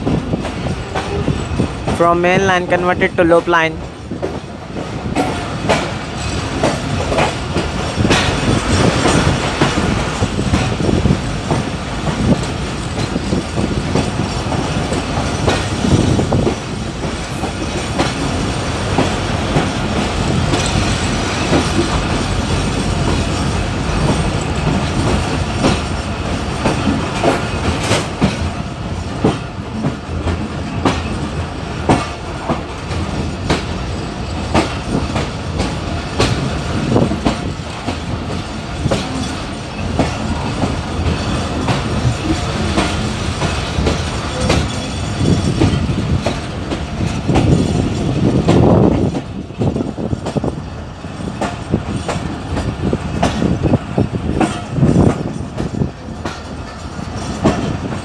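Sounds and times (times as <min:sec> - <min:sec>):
wheels clicking over rail joints: 0:03.8 - 0:58.0.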